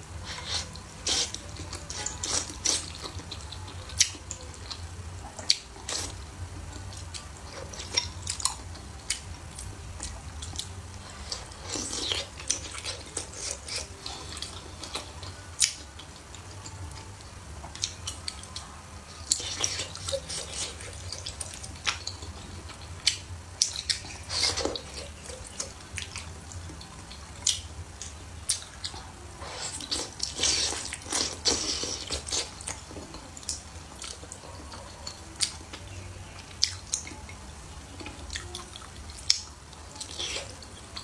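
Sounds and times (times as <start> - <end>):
wet chewing and mouth clicks: 0.2 - 41.0.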